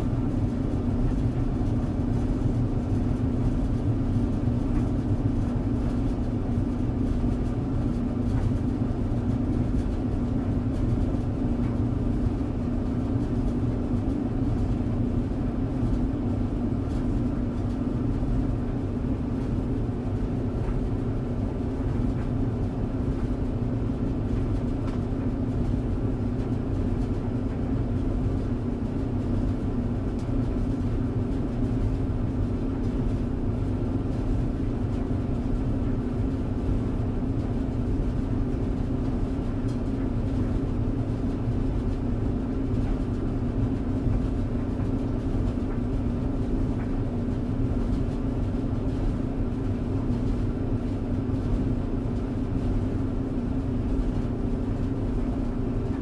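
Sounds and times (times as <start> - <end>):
tumble dryer running: 0.0 - 56.0.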